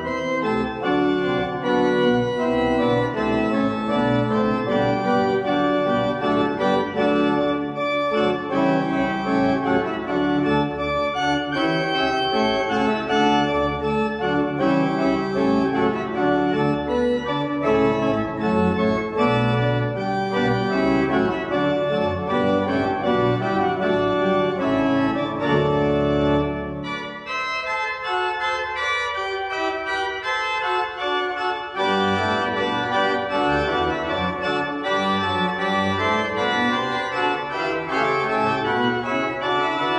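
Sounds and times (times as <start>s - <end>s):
pipe organ playing: 0.0s - 39.9s.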